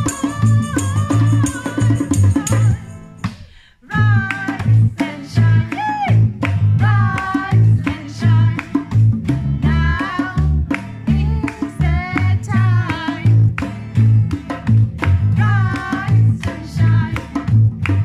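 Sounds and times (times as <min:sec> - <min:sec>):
woman singing: 0:00.0 - 0:08.9, 0:09.6 - 0:13.6, 0:15.3 - 0:17.5
bass guitar: 0:00.0 - 0:18.0
hand drums: 0:00.0 - 0:18.0.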